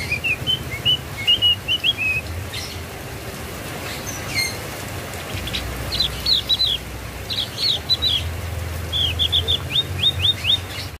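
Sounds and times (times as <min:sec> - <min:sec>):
bird singing high chirps: 0:00.0 - 0:02.8, 0:03.8 - 0:11.0.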